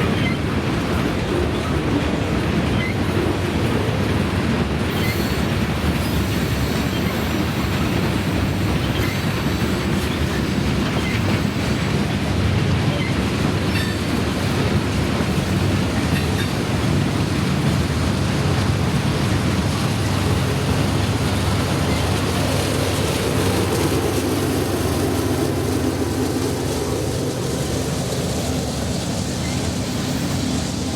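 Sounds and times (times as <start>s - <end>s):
train wheel squeals: 0.0s - 2.0s, 2.6s - 3.3s, 4.8s - 16.6s, 20.0s - 30.9s
freight train cars clattering: 0.0s - 30.9s.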